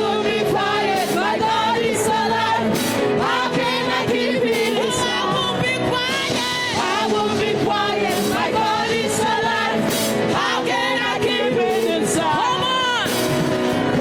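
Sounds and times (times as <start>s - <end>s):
full band accompaniment: 0.0s - 14.0s
gospel singing: 0.0s - 14.0s.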